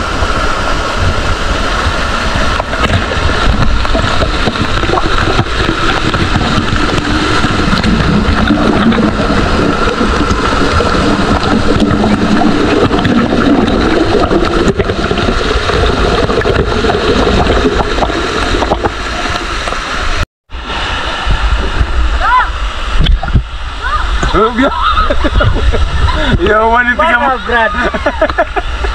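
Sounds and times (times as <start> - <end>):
water rushing over rock: 0.0 - 28.9.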